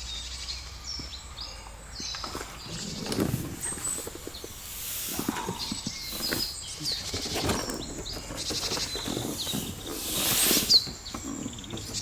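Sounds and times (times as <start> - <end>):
small birds chirping: 0.0 - 12.0
rustling: 2.2 - 12.0.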